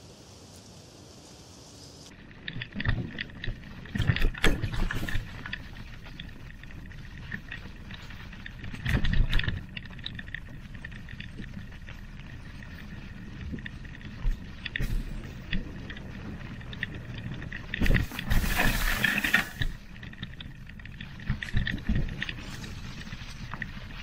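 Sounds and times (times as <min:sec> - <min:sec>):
bicycle tyres rolling on trail: 0:00.0 - 0:24.0
quiet forest ambience: 0:00.0 - 0:24.0
bicycle rattles and clicks: 0:02.1 - 0:24.0.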